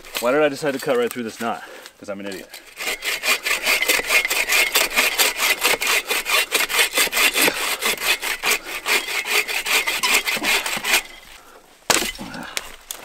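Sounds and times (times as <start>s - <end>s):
bow saw cutting through log: 2.3s - 12.8s.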